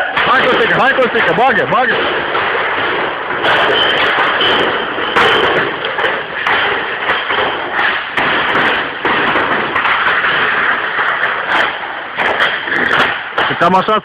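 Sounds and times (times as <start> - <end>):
bottles clattering in crates: 0.0 - 13.6
continuous rattle: 0.0 - 14.0
crates thudding on wooden pallet: 0.2 - 13.6.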